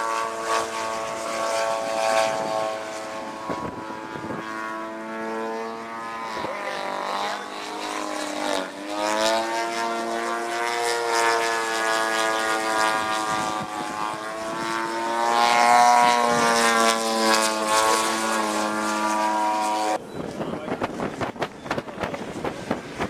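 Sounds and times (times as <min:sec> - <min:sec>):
propeller airplane engine droning: 0:00.0 - 0:23.0.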